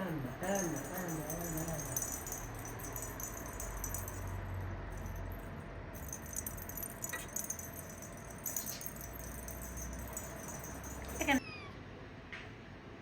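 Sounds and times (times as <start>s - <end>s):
light jingling and rattling: 0.0s - 11.4s
low steady hum: 0.0s - 11.4s.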